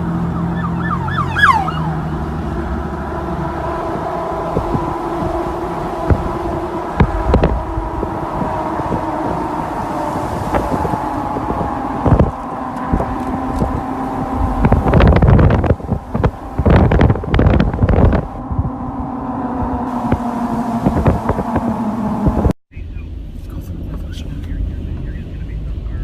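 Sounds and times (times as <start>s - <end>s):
wind buffeting microphone: 0.0s - 22.6s
vehicle hum with road noise: 0.0s - 26.0s.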